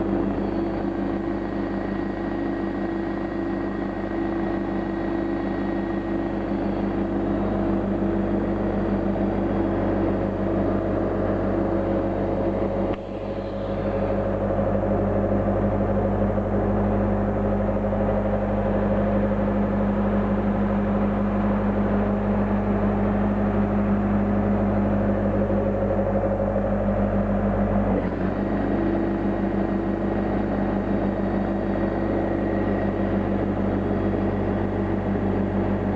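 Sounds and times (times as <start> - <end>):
air compressor running: 0.0 - 35.9.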